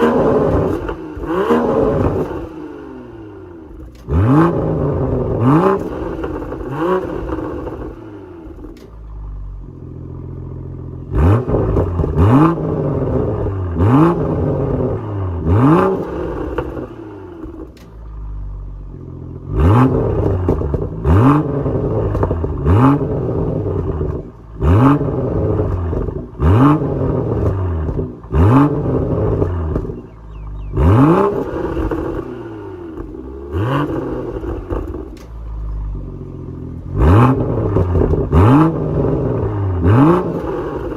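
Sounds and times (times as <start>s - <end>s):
exhaust cracks: 0.0s - 2.9s, 3.6s - 40.9s
car engine revving: 0.0s - 40.9s.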